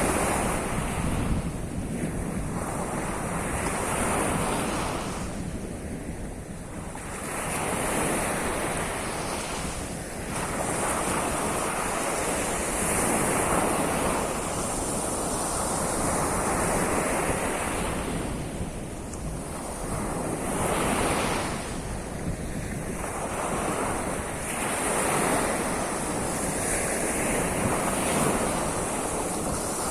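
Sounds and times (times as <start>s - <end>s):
waves breaking on shore: 0.0s - 29.9s.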